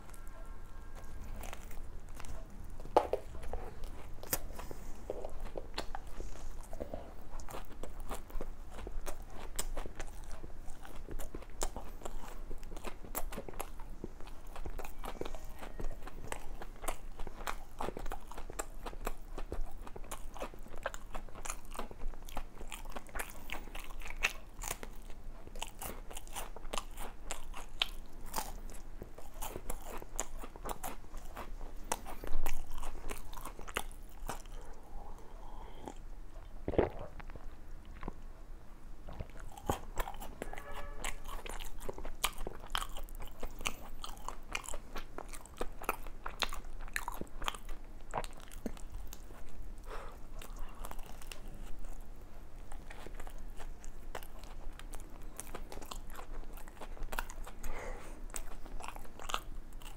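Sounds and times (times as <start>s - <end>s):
crunchy chewing: 0.0s - 38.4s, 39.0s - 59.9s.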